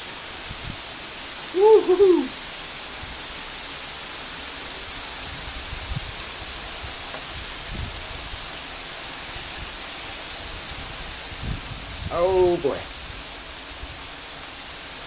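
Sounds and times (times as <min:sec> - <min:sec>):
hail pelting the ground: 0:00.0 - 0:15.0.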